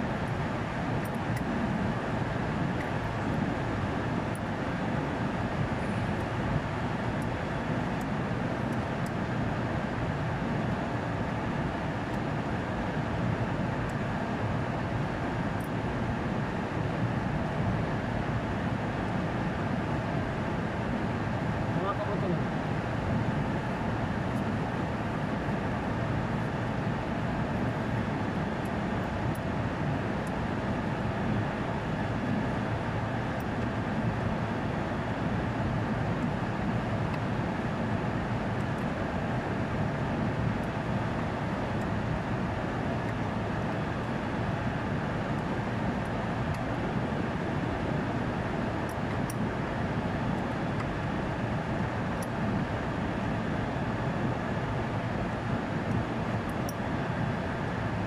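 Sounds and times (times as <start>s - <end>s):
faint hum: 0.0s - 58.0s.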